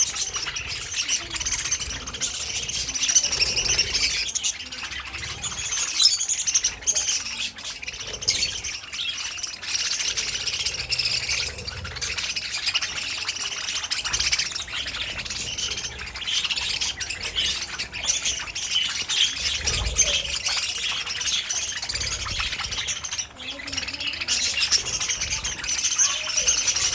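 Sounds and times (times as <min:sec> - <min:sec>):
budgerigars chirping: 0:00.0 - 0:26.9.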